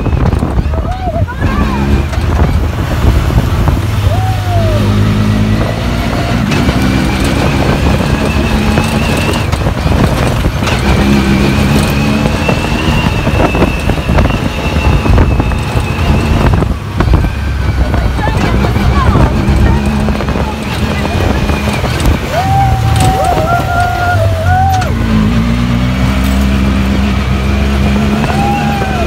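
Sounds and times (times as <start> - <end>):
jolts and rattles of vehicle ride: 0.0 - 29.0
utility vehicle engine running: 0.0 - 29.0.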